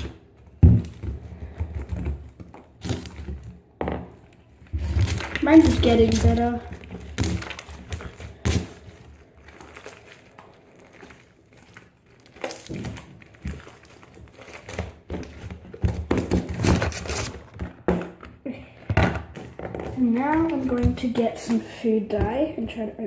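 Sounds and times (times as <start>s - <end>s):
slime squishing and crackling: 0.0s - 23.0s.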